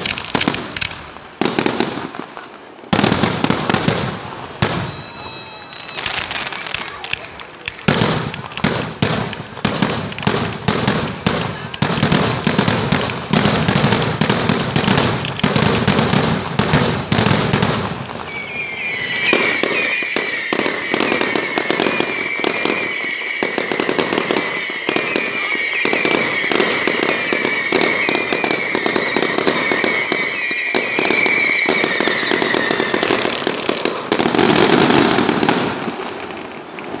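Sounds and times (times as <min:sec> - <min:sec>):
fireworks bangs: 0:00.0 - 0:37.0
fireworks high whistle: 0:00.0 - 0:37.0
fireworks popping and crackle: 0:00.0 - 0:37.0.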